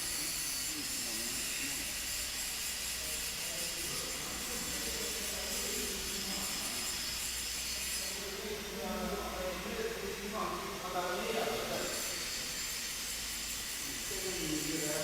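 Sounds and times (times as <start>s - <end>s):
milling machinery hissing: 0.0s - 15.0s.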